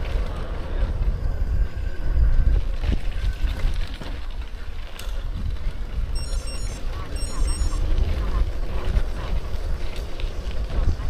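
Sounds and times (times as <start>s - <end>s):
road noise: 0.0s - 11.0s
wind rumbling on microphone: 0.0s - 11.0s.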